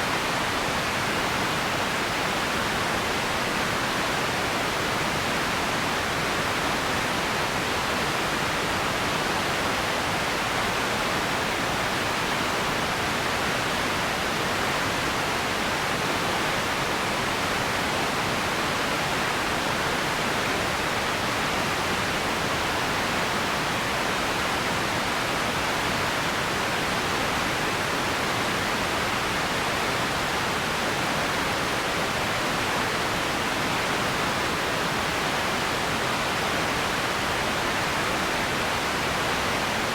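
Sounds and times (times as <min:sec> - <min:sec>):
steady ambience hiss: 0:00.0 - 0:39.9.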